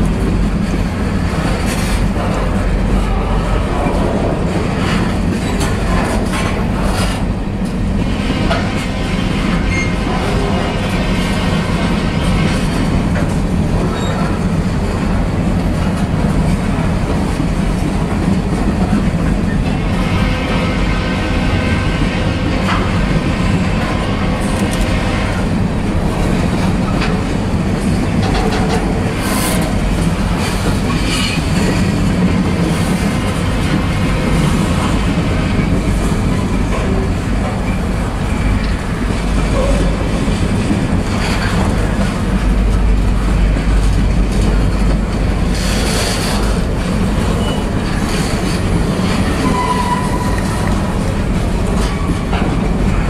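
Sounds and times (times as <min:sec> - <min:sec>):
train cars clanking: 0:00.0 - 0:53.0
train wheels rumbling on rails: 0:00.0 - 0:53.0.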